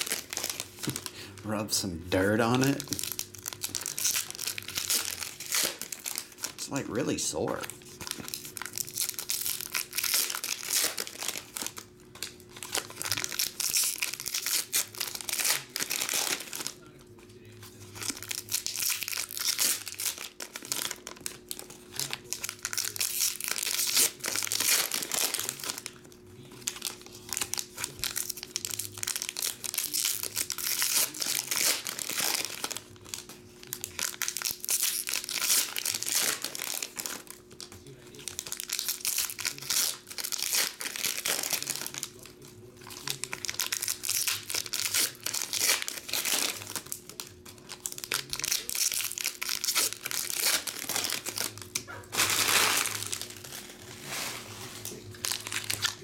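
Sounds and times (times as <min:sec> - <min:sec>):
foil wrappers crinkling and tearing: 0:00.0 - 0:56.0.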